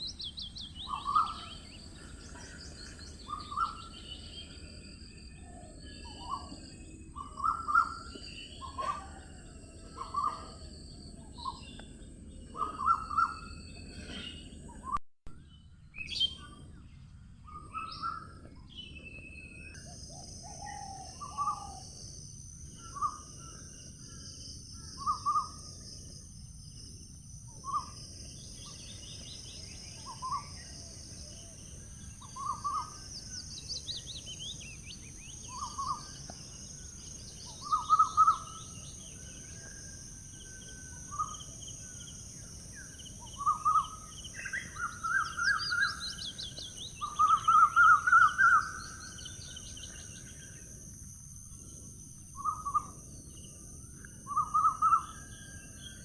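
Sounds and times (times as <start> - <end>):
wild birds calling and chirping: 0.0 - 15.0, 15.9 - 51.2, 51.8 - 56.0.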